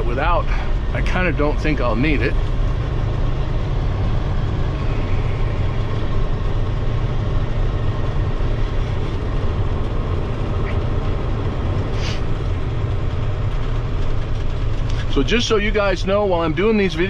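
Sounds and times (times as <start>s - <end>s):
diesel truck engine rumble: 0.0s - 17.0s
tyre and road noise: 0.0s - 17.0s.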